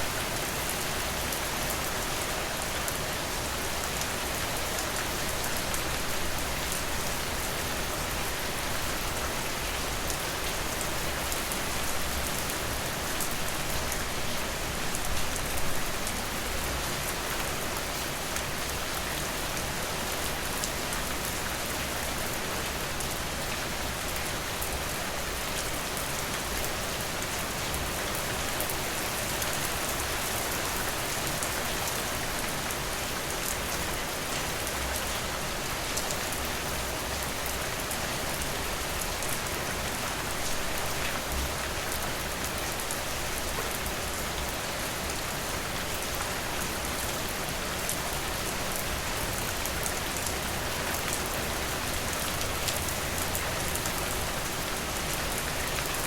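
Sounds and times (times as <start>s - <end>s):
rain pattering on a surface: 0.0s - 56.0s.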